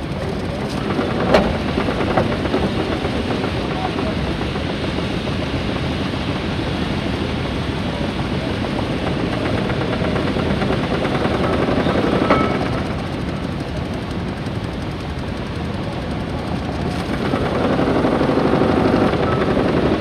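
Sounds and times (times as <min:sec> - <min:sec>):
steam engine clattering and chuffing: 0:00.0 - 0:20.0.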